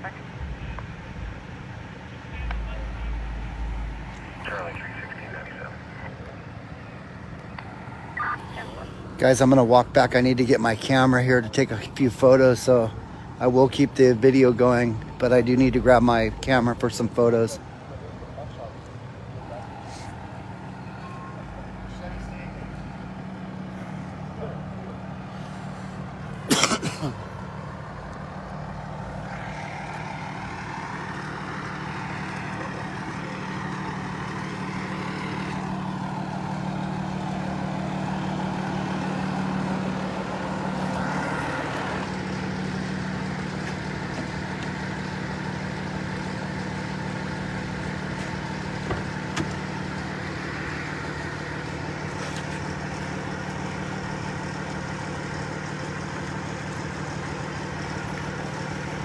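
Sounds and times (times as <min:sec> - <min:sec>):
road noise: 0:00.0 - 0:59.0
vehicle engine idling: 0:00.0 - 0:59.0.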